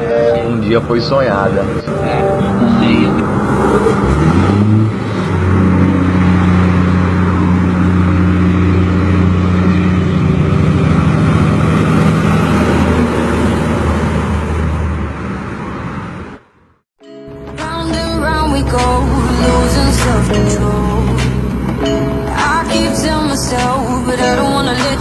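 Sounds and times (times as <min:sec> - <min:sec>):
truck engine revving and rumbling: 0:03.1 - 0:16.3, 0:18.1 - 0:25.0.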